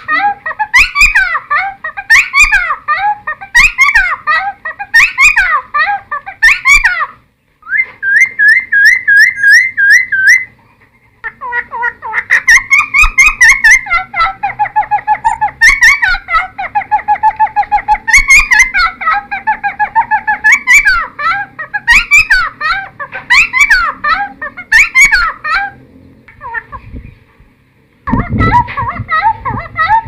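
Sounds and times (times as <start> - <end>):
friarbird singing: 0.0 - 27.4.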